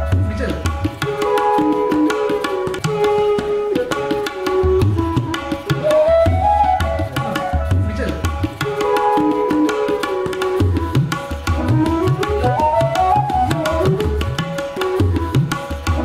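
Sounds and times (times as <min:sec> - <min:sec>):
hand drums playing: 0:00.0 - 0:16.0.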